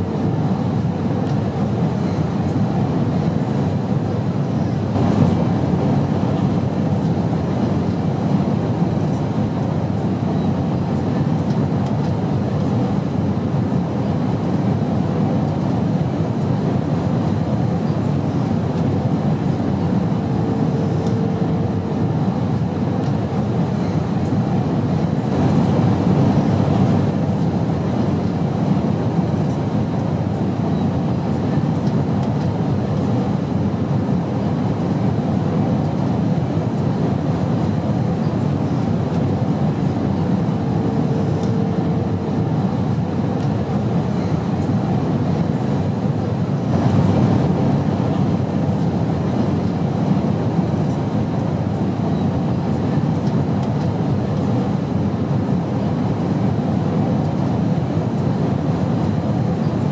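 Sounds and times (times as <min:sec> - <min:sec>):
airplane engines rumbling: 0:00.0 - 0:59.9.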